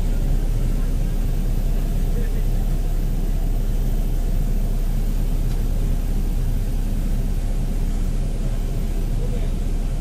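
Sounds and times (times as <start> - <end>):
bus engine and road noise: 0.0 - 10.0.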